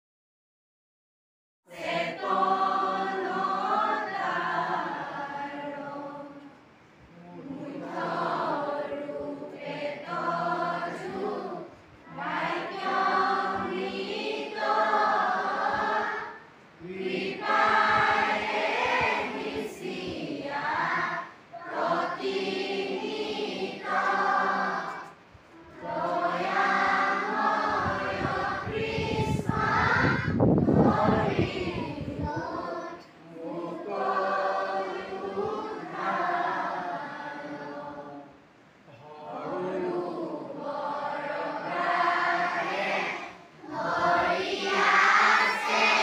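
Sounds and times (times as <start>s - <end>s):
choir singing: 1.7s - 6.6s, 7.2s - 46.0s.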